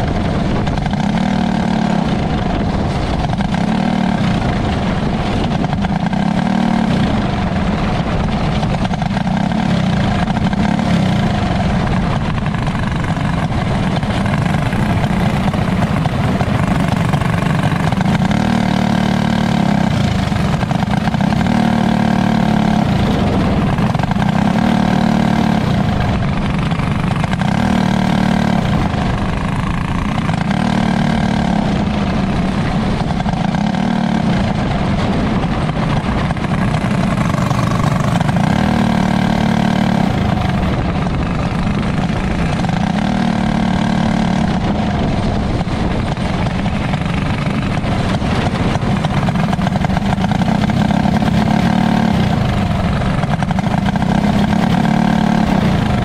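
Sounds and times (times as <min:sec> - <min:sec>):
racing car engine: 0:00.0 - 0:56.0
wind rush: 0:00.0 - 0:56.0.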